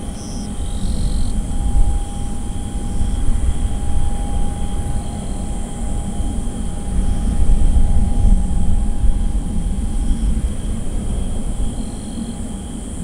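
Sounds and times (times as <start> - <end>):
insects buzzing: 0.0 - 13.0
jet engines running: 0.0 - 13.0.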